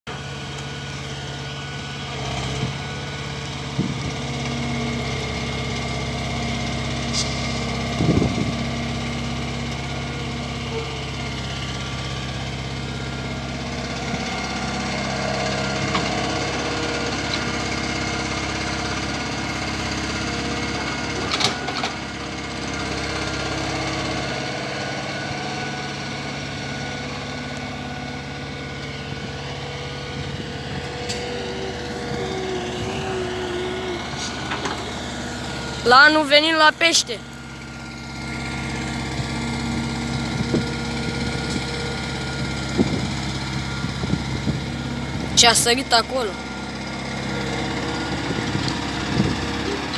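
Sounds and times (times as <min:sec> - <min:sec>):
excavator diesel engine running: 0:00.1 - 0:49.9.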